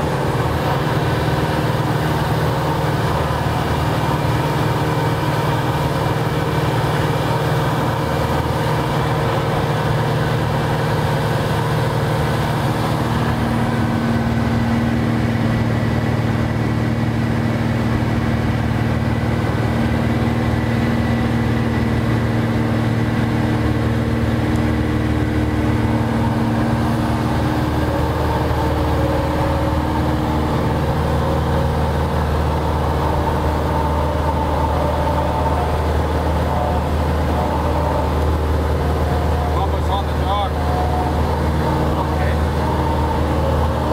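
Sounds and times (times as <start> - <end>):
aircraft engine droning: 0.0 - 43.9.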